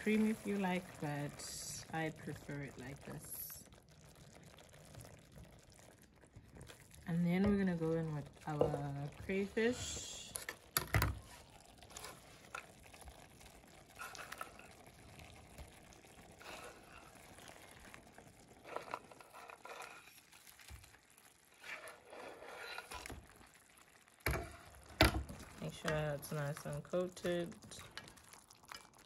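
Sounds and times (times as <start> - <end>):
sauce bubbling: 0.0 - 29.0.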